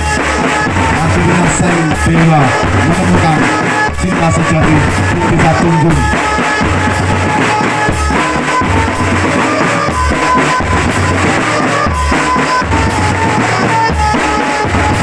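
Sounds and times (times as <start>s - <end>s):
bass drums beating: 0.0s - 15.0s
high held melody notes: 0.0s - 15.0s
snare drums beating: 0.0s - 15.0s.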